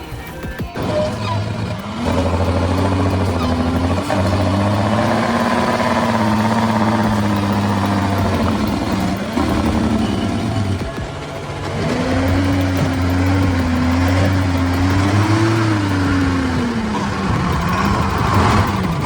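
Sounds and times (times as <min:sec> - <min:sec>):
truck engine under load: 0:00.0 - 0:19.0.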